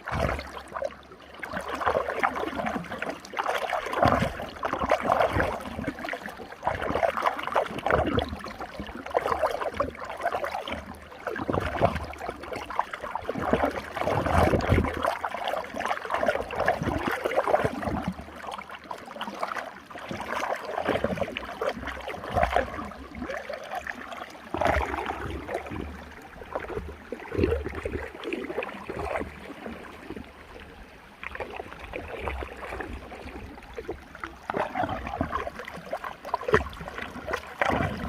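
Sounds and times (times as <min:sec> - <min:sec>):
water gurgling in whirlpool: 0:00.0 - 0:38.0.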